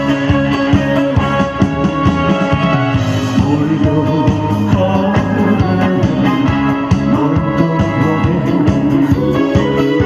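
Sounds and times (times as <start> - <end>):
pop backing track over pa: 0.0 - 10.0.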